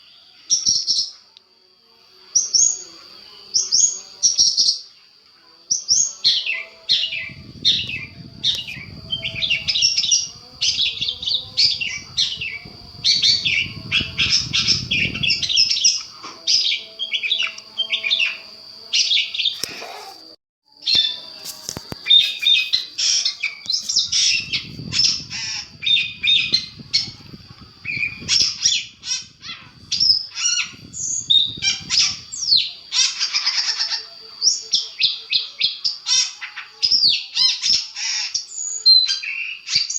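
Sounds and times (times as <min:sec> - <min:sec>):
bird chattering song: 0:05.8 - 0:20.2, 0:20.9 - 0:39.9.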